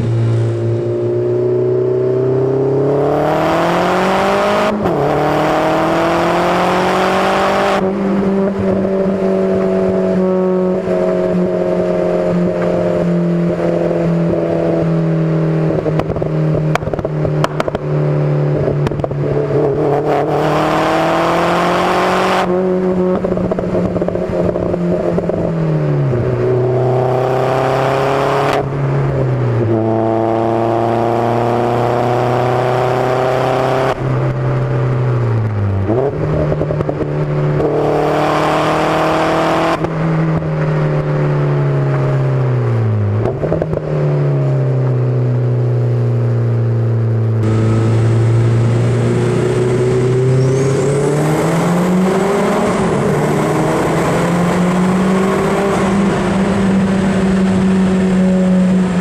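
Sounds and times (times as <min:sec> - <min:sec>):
car engine and exhaust: 0:00.0 - 0:59.0.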